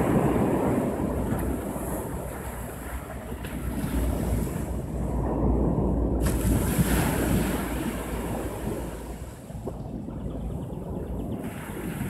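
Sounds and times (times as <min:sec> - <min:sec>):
waves washing up beach: 0:00.0 - 0:09.9, 0:11.4 - 0:12.0
wind rumble on microphone: 0:00.0 - 0:12.0.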